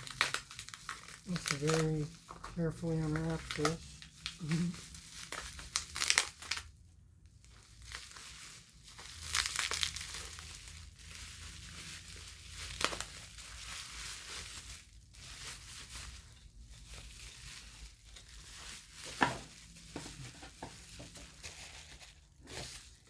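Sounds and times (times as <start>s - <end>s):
packaging wrap crinkling: 0.0s - 23.0s.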